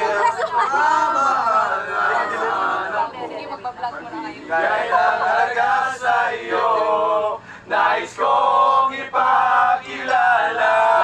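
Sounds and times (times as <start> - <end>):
group singing without instruments: 0.0 - 3.2, 4.4 - 11.0.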